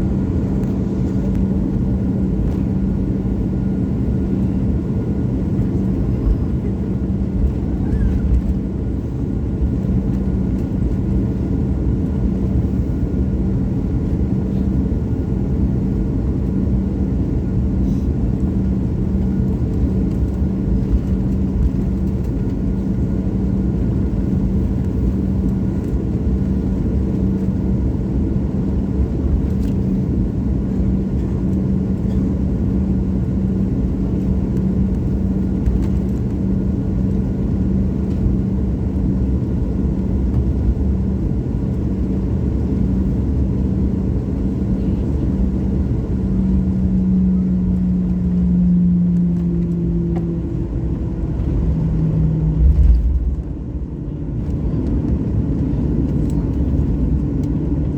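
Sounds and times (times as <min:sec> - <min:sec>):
jet engine rumble: 0:00.0 - 0:57.9.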